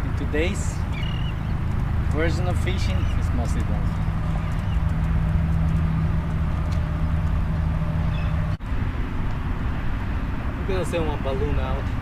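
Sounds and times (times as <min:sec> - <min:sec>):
low engine hum: 0:00.0 - 0:12.0
rushing outdoor noise: 0:00.0 - 0:12.0.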